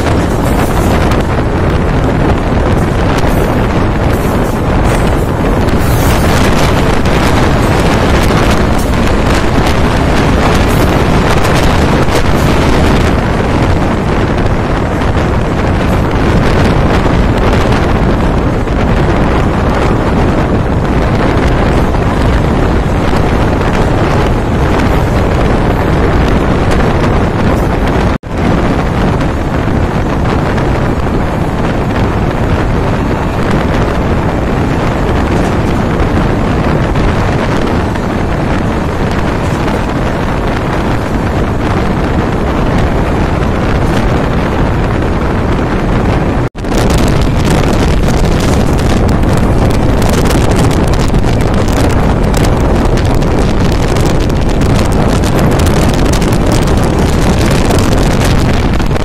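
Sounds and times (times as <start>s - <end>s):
fast train rumble: 0.0s - 59.0s
wind buffeting microphone: 0.0s - 59.0s.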